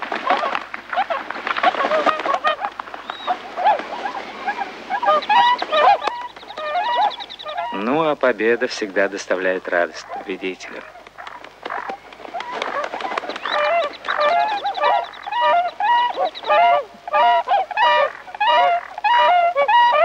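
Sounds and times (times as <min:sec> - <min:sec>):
swans calling: 0:00.0 - 0:20.0.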